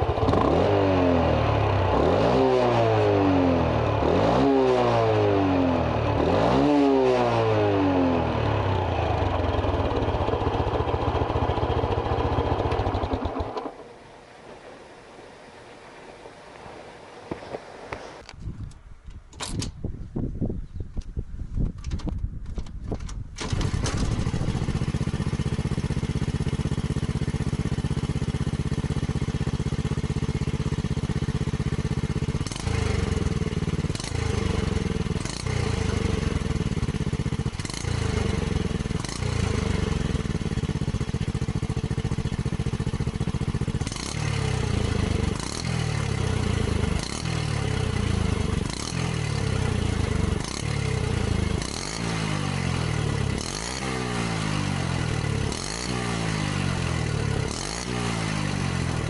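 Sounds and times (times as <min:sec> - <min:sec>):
engine revving: 0:00.0 - 0:13.8, 0:23.4 - 0:59.0
motorcycle engine starting and idling: 0:00.0 - 0:14.8, 0:20.9 - 0:59.0.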